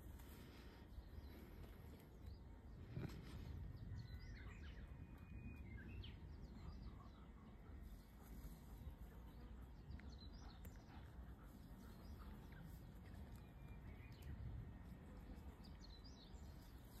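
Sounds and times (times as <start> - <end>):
faint bird chirps: 0.5 - 14.6.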